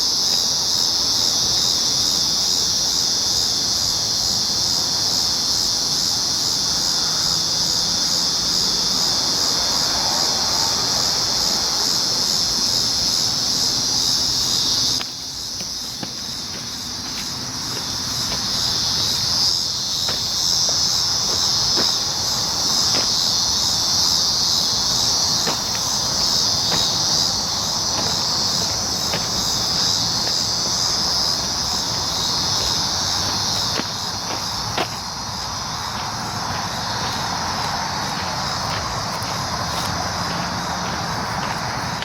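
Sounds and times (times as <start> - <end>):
cicadas buzzing: 0.0 - 42.0.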